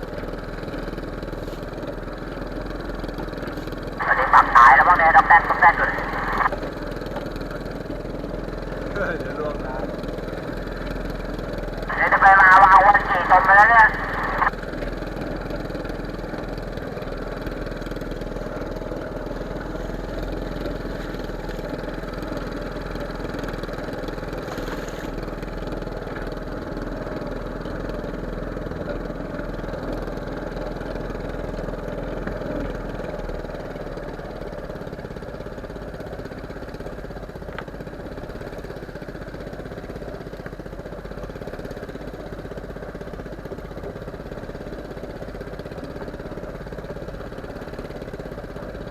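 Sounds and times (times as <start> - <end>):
boat engine running: 0.0 - 11.9, 13.0 - 40.3.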